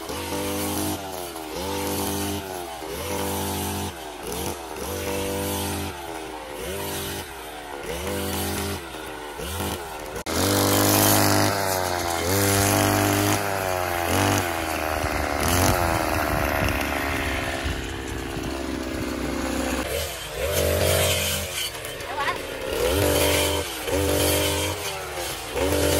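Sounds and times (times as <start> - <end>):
brush cutter engine revving: 0.0 - 25.9.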